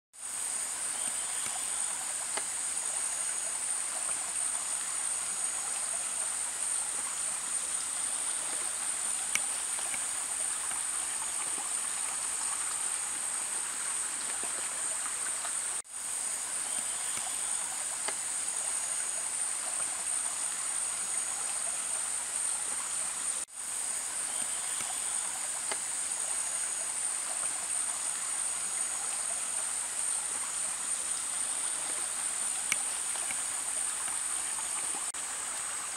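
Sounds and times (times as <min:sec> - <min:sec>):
high-pitched insect chorus: 0:00.2 - 0:35.9
stream babbling over stones: 0:00.2 - 0:35.9.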